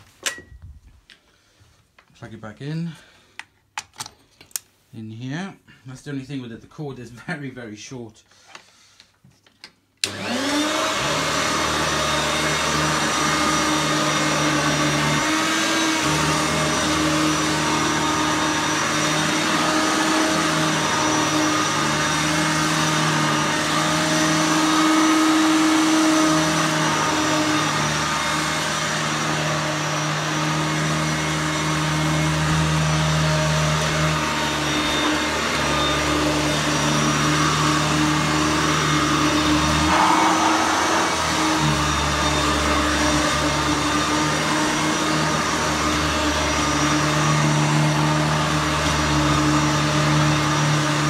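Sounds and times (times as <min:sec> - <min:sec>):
vacuum cleaner motor whine: 0:10.0 - 0:51.0.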